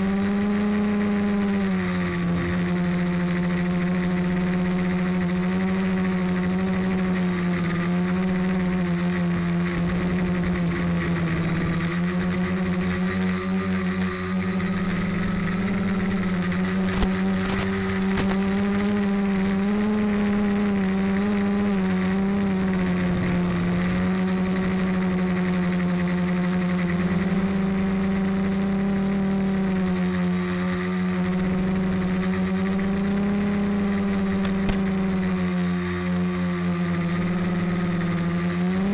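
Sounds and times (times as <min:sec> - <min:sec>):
drone motors and propellers droning: 0:00.0 - 0:38.9.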